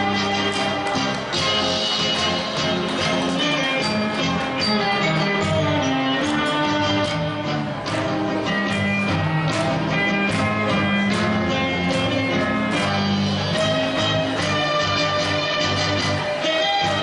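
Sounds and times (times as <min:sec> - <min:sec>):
instrumental music with guitar and beat: 0:00.0 - 0:17.0.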